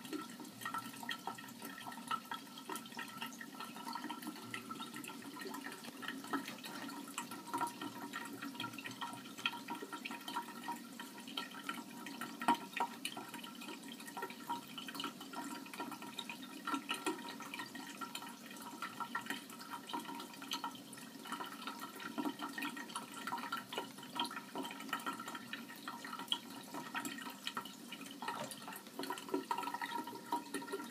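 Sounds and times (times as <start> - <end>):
faint steady hum: 0.0 - 30.9
liquid trickling and dripping: 0.0 - 30.9.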